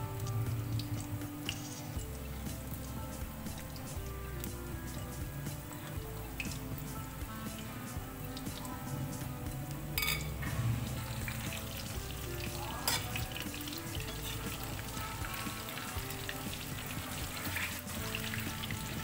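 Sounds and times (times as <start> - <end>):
food deep-frying in hot oil: 0.0 - 19.0
metal spatula stirring: 0.2 - 19.0.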